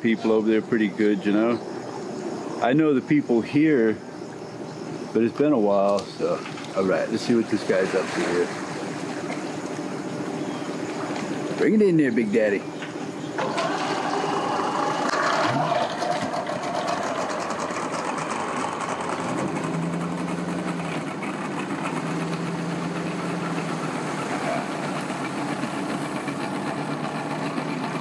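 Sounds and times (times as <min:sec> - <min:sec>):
boat motor idling: 0:00.0 - 0:28.0.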